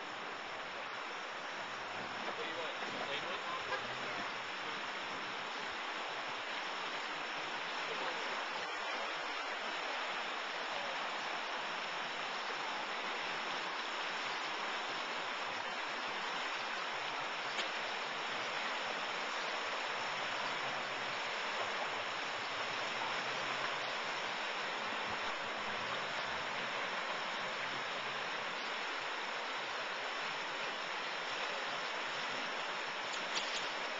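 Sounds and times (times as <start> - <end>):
creek rushing over stones: 0.0 - 33.9.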